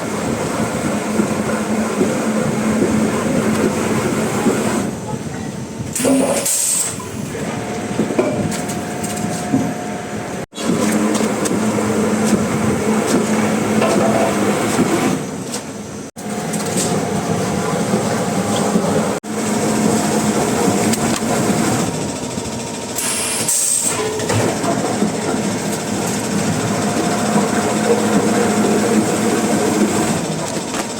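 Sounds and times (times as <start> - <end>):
woodworking machinery clatter: 5.8 - 30.9.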